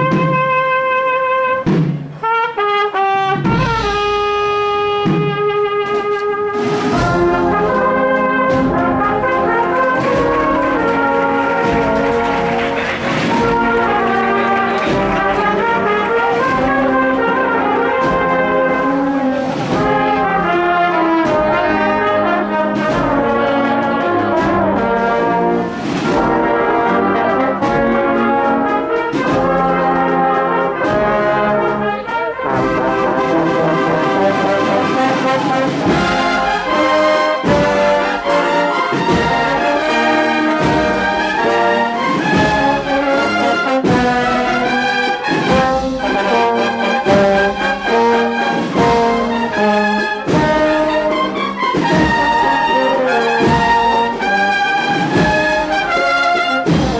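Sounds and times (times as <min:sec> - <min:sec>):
marching band playing: 0:00.0 - 0:56.9
steady drum beat: 0:00.0 - 0:56.9
trumpets and trombones melody: 0:00.0 - 0:56.9.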